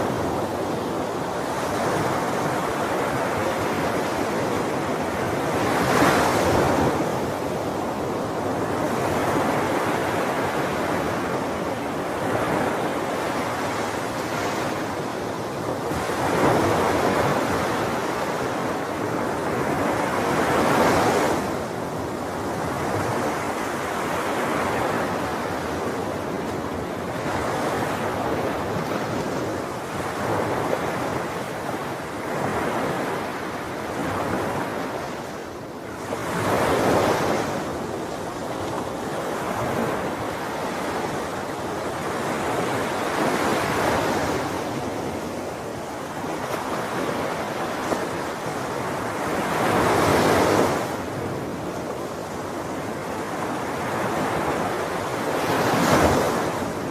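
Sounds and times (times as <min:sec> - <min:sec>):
sea waves breaking on shore: 0:00.0 - 0:56.9
wind on microphone: 0:00.0 - 0:56.9.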